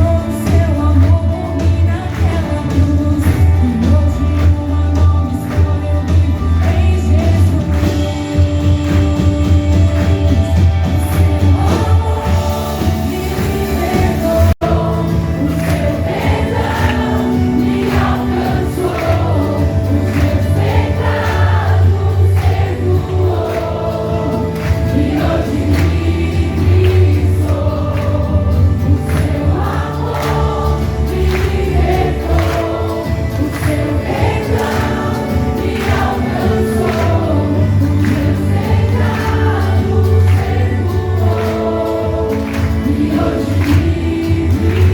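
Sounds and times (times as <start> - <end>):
band with steady bass line: 0.0 - 44.9
choir singing: 0.0 - 44.9.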